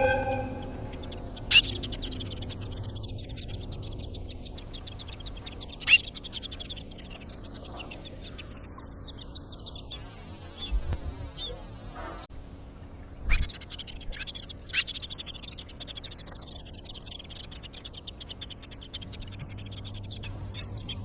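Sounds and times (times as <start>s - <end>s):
bird chicks begging chatter: 0.0s - 11.6s, 13.2s - 21.0s.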